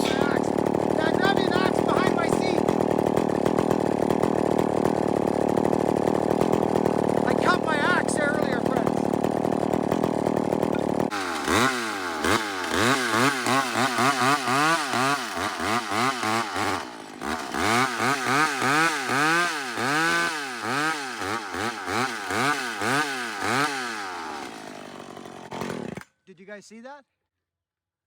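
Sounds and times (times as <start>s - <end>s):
chainsaw engine revving in pulses: 0.0s - 26.0s.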